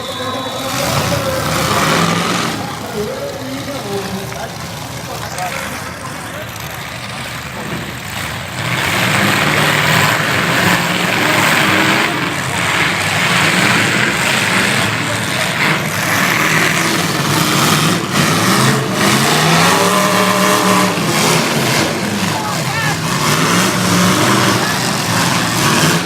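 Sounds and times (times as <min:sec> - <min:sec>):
truck engines revving: 0:00.0 - 0:26.0.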